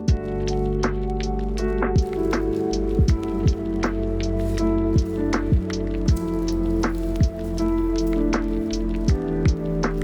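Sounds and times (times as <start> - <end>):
kick drums: 0.0 - 0.3, 1.9 - 10.0
lo-fi background music: 0.0 - 10.0.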